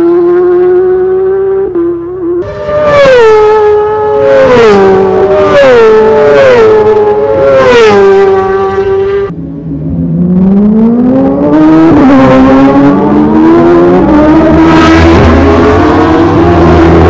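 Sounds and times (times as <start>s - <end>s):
motorcycle accelerating: 0.0s - 17.0s
racing motorcycles passing: 0.0s - 17.0s.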